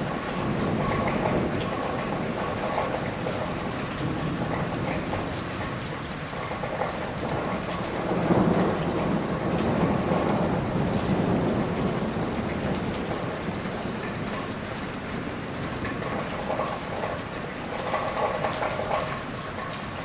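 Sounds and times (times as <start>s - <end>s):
rolling thunder rumble: 0.0s - 19.3s
steady rain: 0.0s - 20.0s.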